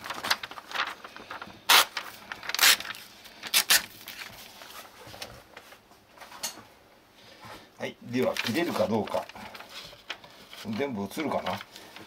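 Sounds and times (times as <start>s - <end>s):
paper rustling and crinkling: 0.0s - 6.3s, 8.1s - 12.0s.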